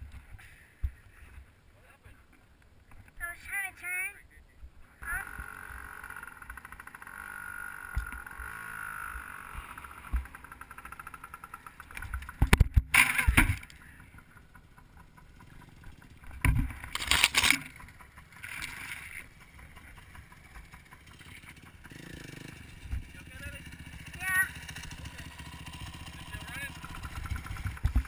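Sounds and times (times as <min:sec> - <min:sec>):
dirt bike engine running: 0:04.9 - 0:28.0.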